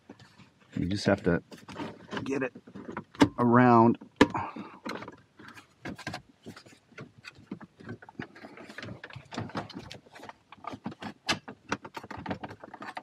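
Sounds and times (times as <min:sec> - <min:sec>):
plastic trim clicking and scraping: 0:00.1 - 0:13.0.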